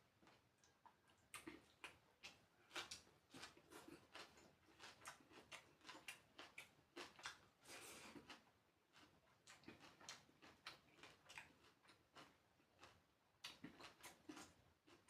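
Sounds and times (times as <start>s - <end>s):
faint chewing and mouth smacking: 0.1s - 15.0s.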